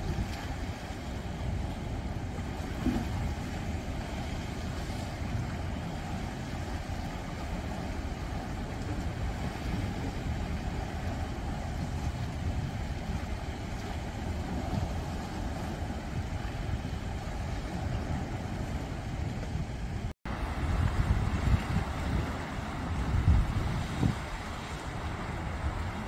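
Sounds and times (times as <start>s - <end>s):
waves washing against rocks: 0.0s - 26.0s.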